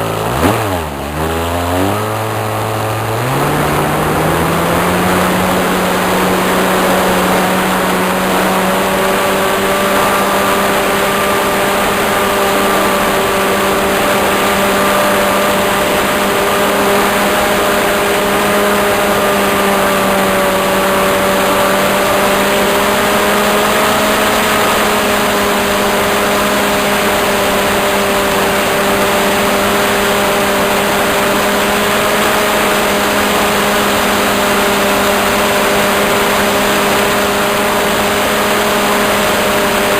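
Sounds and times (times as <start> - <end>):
model airplane motor and propeller: 0.0 - 39.9.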